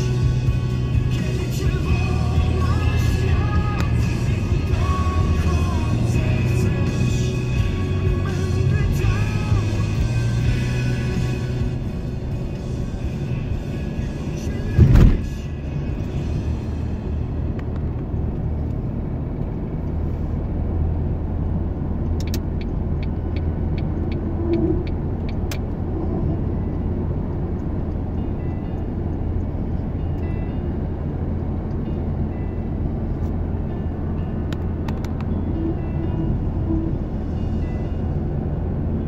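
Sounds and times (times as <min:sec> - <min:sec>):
car engine and tyre hum: 0:00.0 - 0:39.0.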